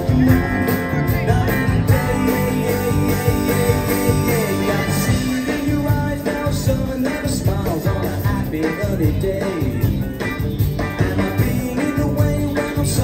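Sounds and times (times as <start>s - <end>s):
live pop band playing: 0.0s - 13.0s.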